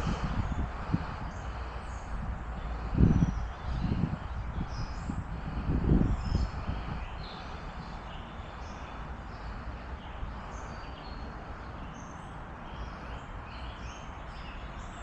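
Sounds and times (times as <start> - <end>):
birds chirping: 0.0 - 15.0
rushing outdoor background rumble: 0.0 - 15.0.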